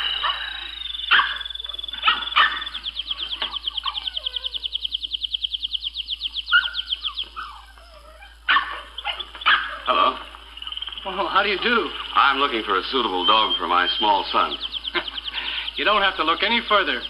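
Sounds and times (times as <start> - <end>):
soft low bird chirps: 0.0 - 17.0
songbird trilling: 0.0 - 17.0.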